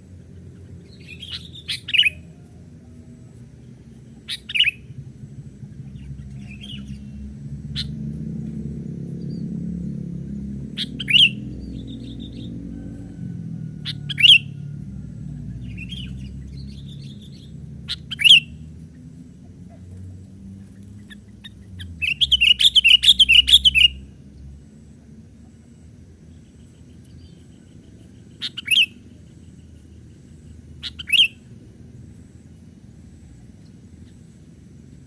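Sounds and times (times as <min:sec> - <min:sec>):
low rumble: 0:00.0 - 0:30.8
birds chirping: 0:00.0 - 0:35.0.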